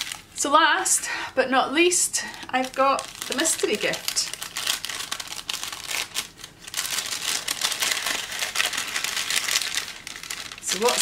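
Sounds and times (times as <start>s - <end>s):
paper bag crinkling: 0.0s - 0.3s, 2.3s - 11.0s.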